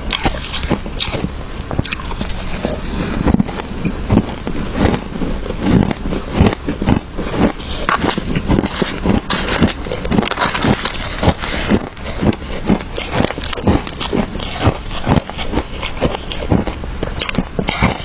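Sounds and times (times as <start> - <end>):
shaved ice crunching while chewed: 0.0 - 18.0.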